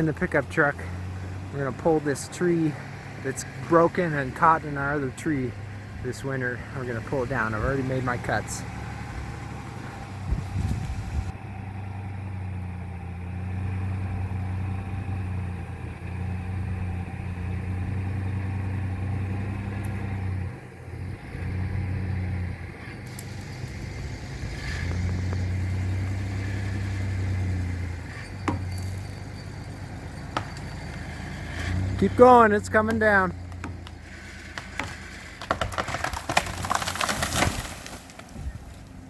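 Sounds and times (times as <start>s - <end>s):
pickup truck engine running: 0.0s - 39.0s.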